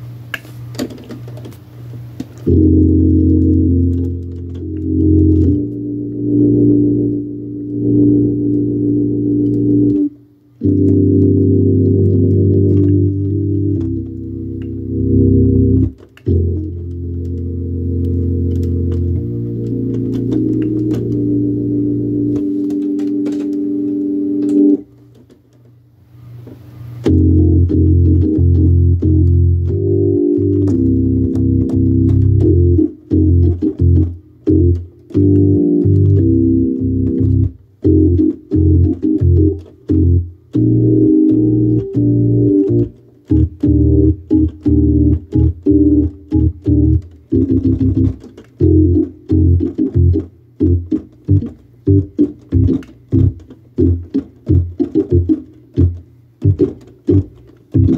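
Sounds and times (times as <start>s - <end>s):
hammond organ chords: 0.0s - 25.2s, 26.2s - 57.9s
low bass notes: 2.5s - 24.8s, 27.0s - 57.9s.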